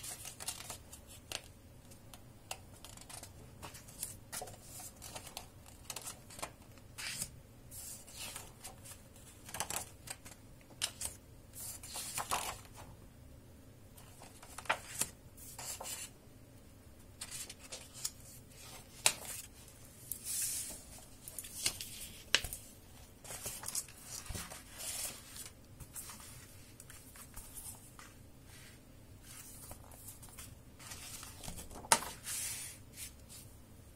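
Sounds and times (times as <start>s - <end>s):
book pages turning: 0.0s - 1.5s, 2.1s - 12.8s, 14.0s - 16.1s, 17.2s - 33.4s.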